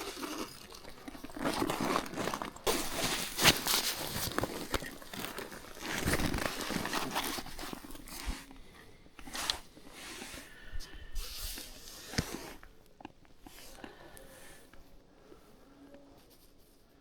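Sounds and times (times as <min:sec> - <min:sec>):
rustling and crunching: 0:00.0 - 0:14.0.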